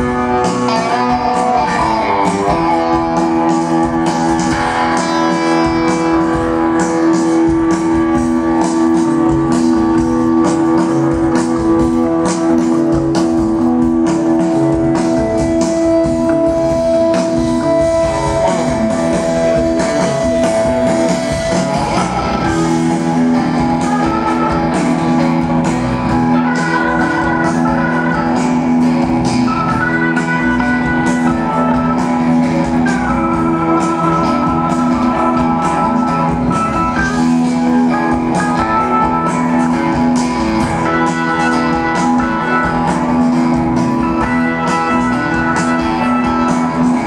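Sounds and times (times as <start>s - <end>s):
bass guitar: 0.0s - 47.0s
drums: 0.0s - 47.0s
electric guitars: 0.0s - 47.0s.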